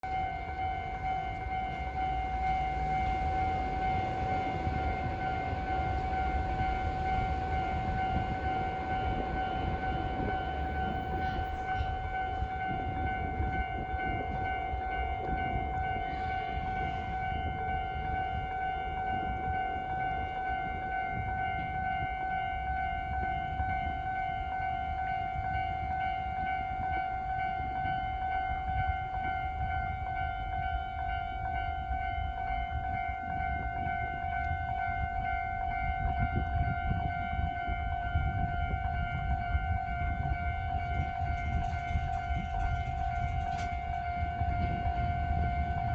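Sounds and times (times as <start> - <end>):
level-crossing warning bell ringing: 0.0 - 45.9
passing train rumble: 0.0 - 45.9.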